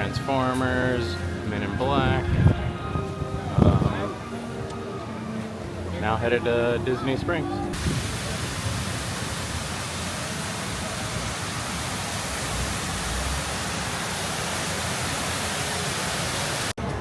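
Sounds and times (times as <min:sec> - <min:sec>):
steady rushing hiss: 0:01.2 - 0:16.7.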